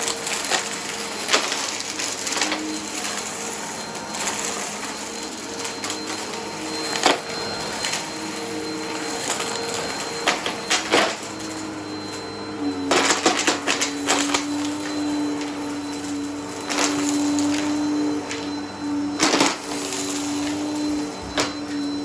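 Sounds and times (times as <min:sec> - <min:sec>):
vacuum cleaner motor whine: 0:00.0 - 0:22.0.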